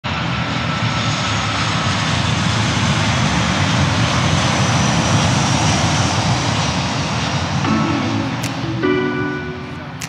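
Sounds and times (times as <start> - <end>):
jet engine rumble: 0.1 - 10.0.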